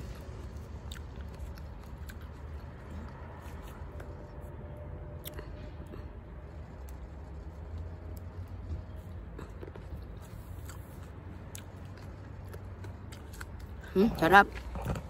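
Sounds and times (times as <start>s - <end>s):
person chewing grapes: 0.0s - 15.0s
steady low rumble: 0.0s - 15.0s.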